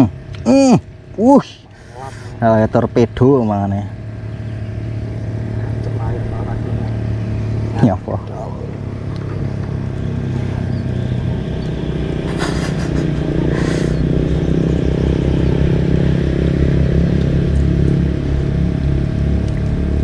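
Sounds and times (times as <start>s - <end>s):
engine running at low revs: 0.0s - 20.0s.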